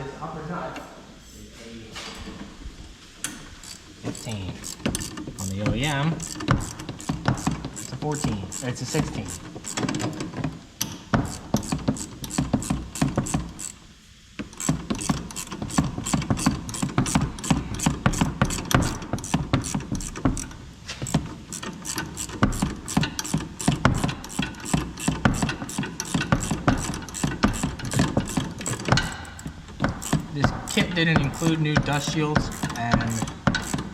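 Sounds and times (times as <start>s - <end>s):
ratchet wrench clicking: 3.2s - 13.8s, 14.4s - 33.9s.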